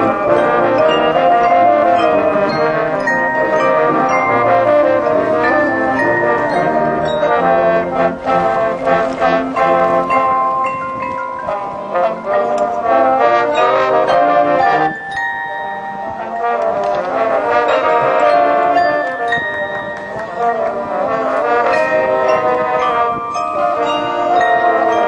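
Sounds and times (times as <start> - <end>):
marching band brass chords: 0.0 - 25.0
marimba and xylophone: 0.0 - 25.0.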